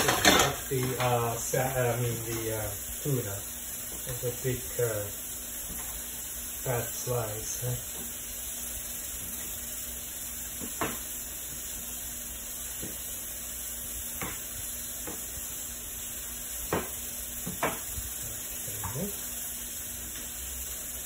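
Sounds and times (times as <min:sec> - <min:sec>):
oil sizzling in frying pans: 0:00.0 - 0:21.0.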